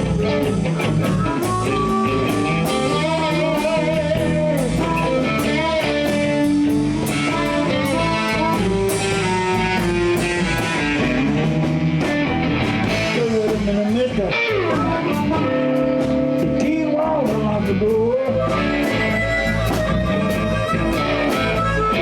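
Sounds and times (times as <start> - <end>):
bass: 0.0 - 22.0
blues guitar with bending notes: 0.0 - 22.0.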